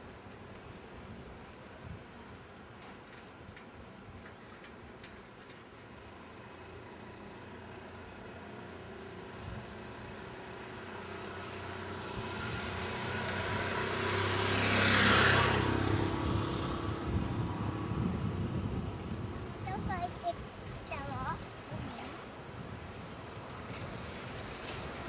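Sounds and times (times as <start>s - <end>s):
passing train rumble and hiss: 0.0s - 25.0s.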